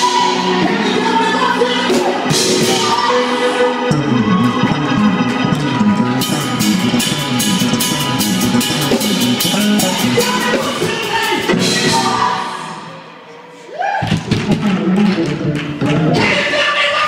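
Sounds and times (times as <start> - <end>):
electric bass line: 0.0 - 13.0, 14.1 - 16.5.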